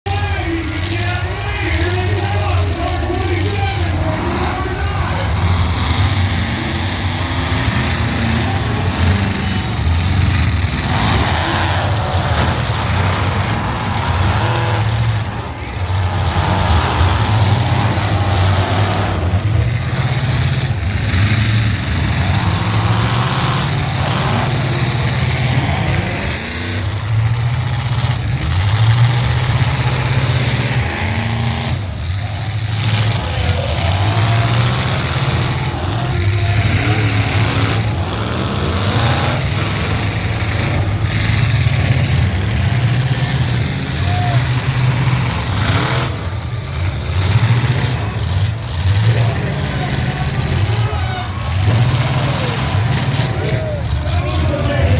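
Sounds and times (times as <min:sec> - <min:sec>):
car engines revving: 0:00.0 - 0:54.9
dense noisy background: 0:00.0 - 0:54.9.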